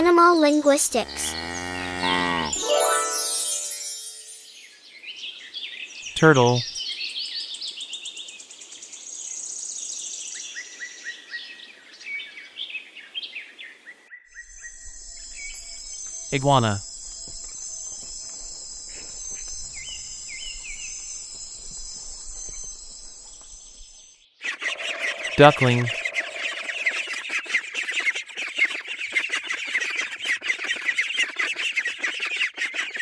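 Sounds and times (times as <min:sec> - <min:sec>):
birds chirping and trilling: 0:00.9 - 0:33.0.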